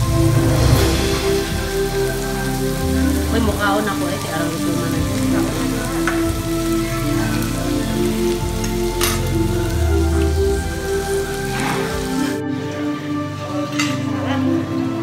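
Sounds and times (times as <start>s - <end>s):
meat sizzling on grill plate: 0.0s - 12.7s
background music: 0.0s - 15.0s.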